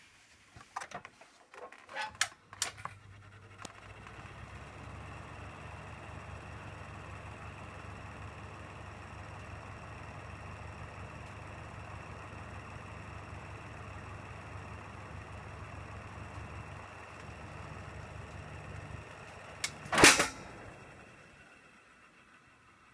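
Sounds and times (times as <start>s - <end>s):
ventilation fan hum and rushing air: 2.2s - 21.4s.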